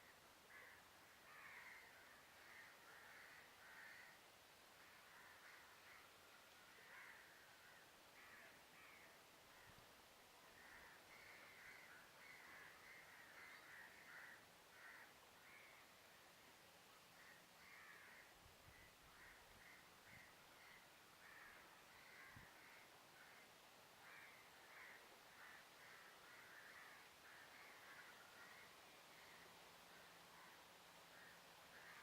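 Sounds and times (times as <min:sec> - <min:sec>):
faint birds calling: 0:00.0 - 0:32.0.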